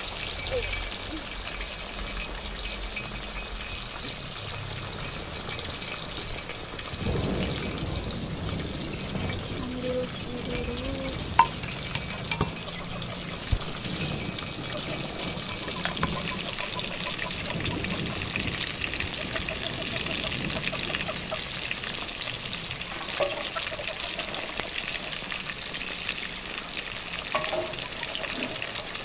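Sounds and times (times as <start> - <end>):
food sizzling in oil: 0.0 - 29.0
water trickling: 0.0 - 29.0.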